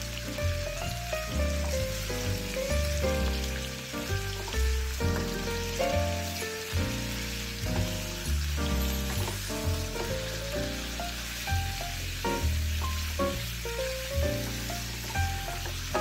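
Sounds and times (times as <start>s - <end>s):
chicken sizzling in a frying pan: 0.0s - 16.0s
instrumental background music: 0.0s - 16.0s.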